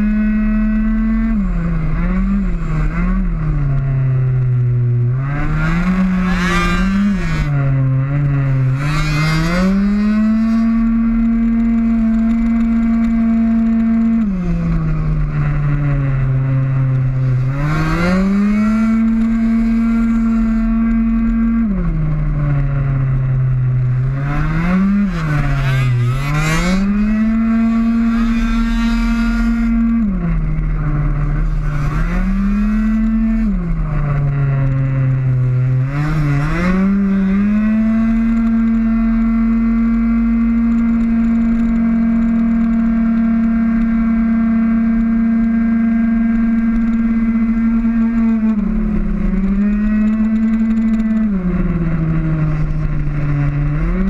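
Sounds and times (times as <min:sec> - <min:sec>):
passing scooter engines: 0:00.0 - 0:54.0
scooter engine at full throttle: 0:00.0 - 0:54.0.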